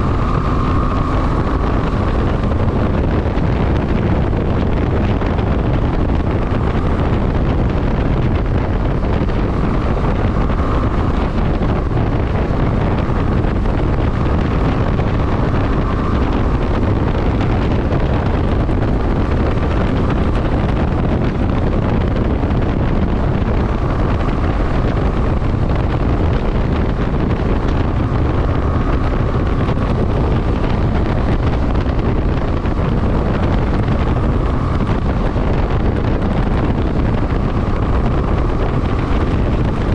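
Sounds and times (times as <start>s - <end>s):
motorcycle road and engine noise: 0.0s - 39.9s
wind rushing over microphone: 0.0s - 39.9s.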